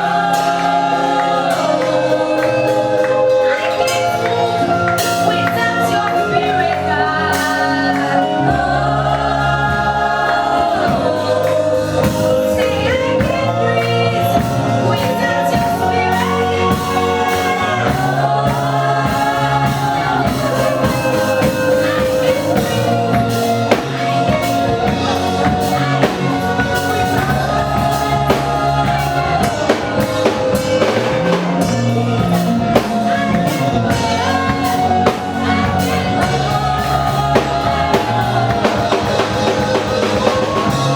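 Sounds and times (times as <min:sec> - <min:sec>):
band with drum kit: 0:00.0 - 0:40.9
choir singing: 0:00.0 - 0:40.9.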